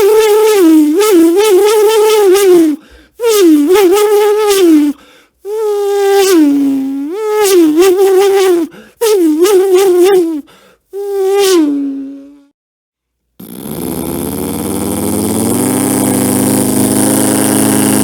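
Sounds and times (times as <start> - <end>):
man making buzzing humming sounds: 0.0 - 12.5, 13.4 - 18.0.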